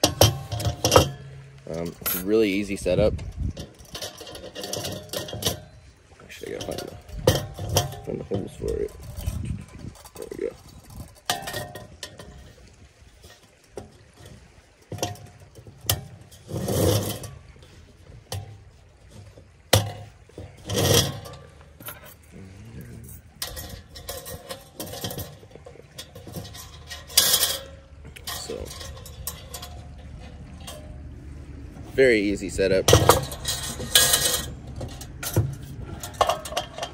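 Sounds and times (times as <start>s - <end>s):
loud metal clanks: 0.0s - 9.3s, 13.2s - 17.6s, 18.2s - 22.3s, 23.3s - 36.9s
metal clinks and rattles: 0.0s - 36.9s.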